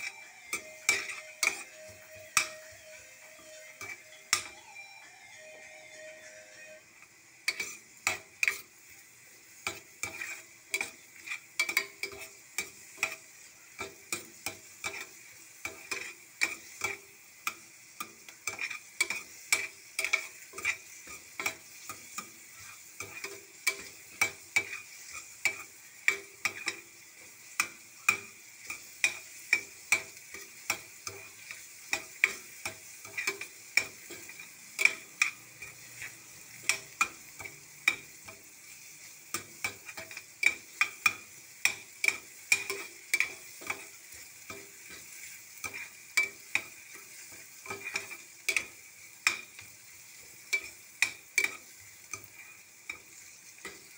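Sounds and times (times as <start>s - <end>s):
spatula scraping metal pan: 0.0s - 4.5s, 7.5s - 8.7s, 9.6s - 53.9s
onion and garlic sizzling: 0.0s - 53.9s.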